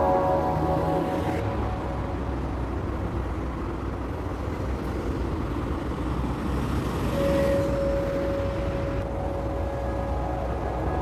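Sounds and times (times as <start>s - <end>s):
rumble of passing cars: 0.0s - 11.0s.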